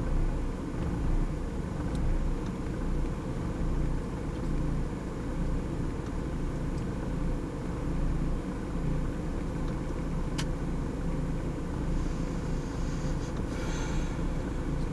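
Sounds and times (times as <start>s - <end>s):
car engine idling roughly: 0.0s - 14.9s.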